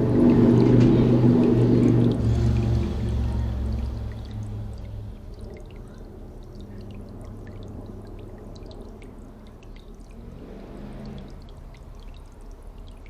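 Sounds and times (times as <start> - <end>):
low steady rumble: 0.0 - 13.0
water splashing in bird bath: 0.0 - 13.0.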